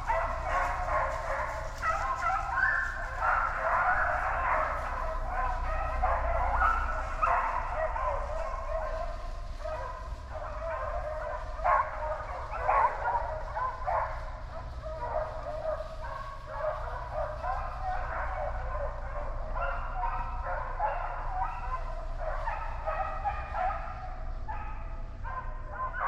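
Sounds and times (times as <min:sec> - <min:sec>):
steady low rumble: 0:00.0 - 0:23.2
hounds baying and yelping: 0:00.0 - 0:26.0.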